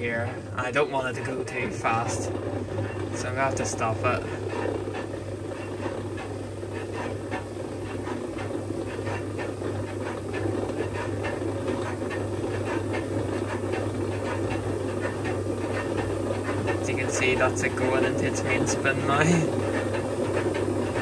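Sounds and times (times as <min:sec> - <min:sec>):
drums churning: 0:00.0 - 0:21.0
washing machine motor hum: 0:00.0 - 0:21.0.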